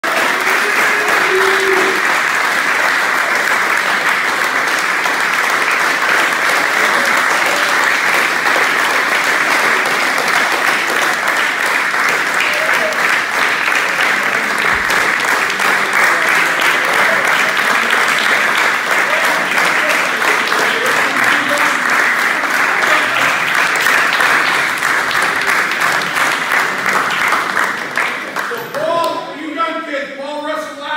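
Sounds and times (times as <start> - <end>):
crowd applauding: 0.0 - 29.3
group clapping hands: 0.0 - 29.3.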